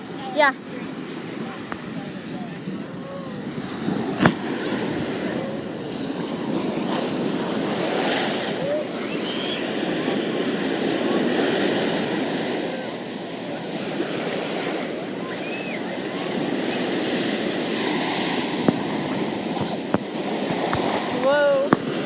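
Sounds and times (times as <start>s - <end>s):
ocean surf on a beach: 0.0s - 22.0s.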